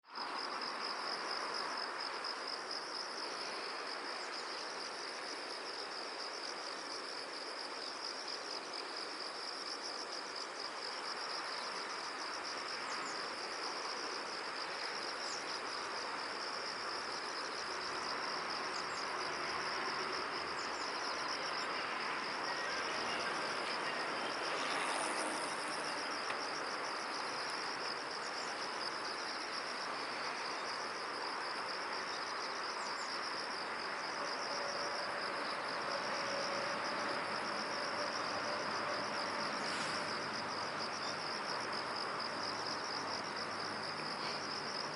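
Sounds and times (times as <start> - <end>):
outdoor background hiss: 0.0 - 44.9
insects trilling: 0.1 - 44.9.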